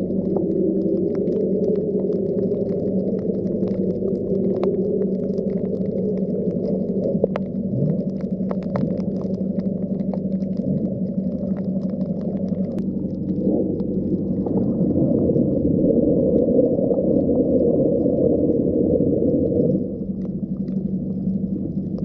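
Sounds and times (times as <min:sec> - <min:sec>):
faint hum: 0:00.0 - 0:22.0
faint underwater clicks: 0:00.0 - 0:22.0
muffled underwater rumble: 0:00.0 - 0:22.0.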